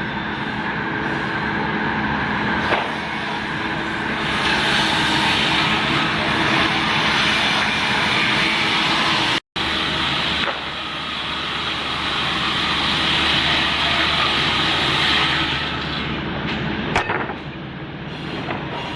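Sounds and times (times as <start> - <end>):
saw machine running: 0.0 - 18.9.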